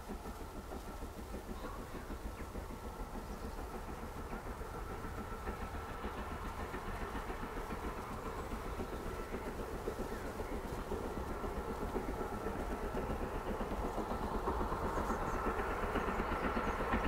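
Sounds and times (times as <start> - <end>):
distant steam locomotive chuffing: 0.0 - 17.0.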